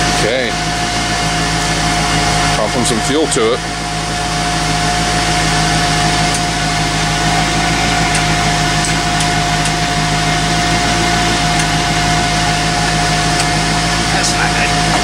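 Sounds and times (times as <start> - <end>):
electric blower whirring: 0.0 - 15.0
low hum: 0.0 - 15.0.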